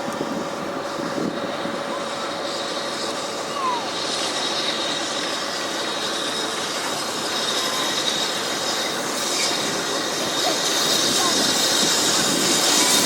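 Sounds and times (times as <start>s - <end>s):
train wheels rumbling on rails: 0.0s - 13.0s
high-pitched wheel squeal: 1.2s - 5.1s, 5.8s - 13.0s.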